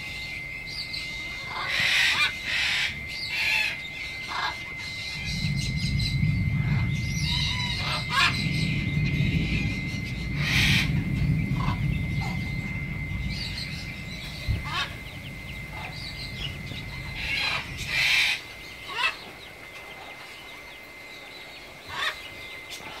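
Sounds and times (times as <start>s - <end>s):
low rumble: 0.0s - 22.7s
birds calling: 0.0s - 23.0s.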